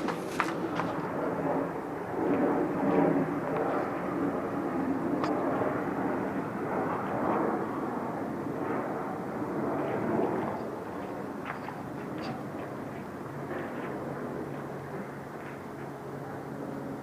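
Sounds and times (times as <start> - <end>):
rumbling drone from the sky: 0.0 - 17.0.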